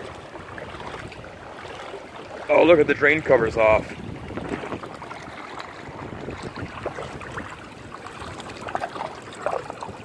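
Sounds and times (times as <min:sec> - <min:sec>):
water rushing into drain: 0:00.0 - 0:10.0.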